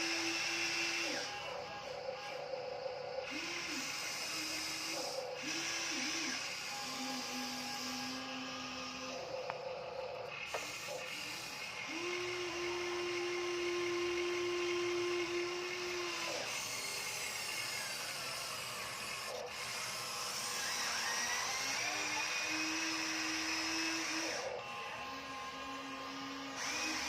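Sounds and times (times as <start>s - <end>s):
toy truck electric motors whining: 0.0s - 27.0s.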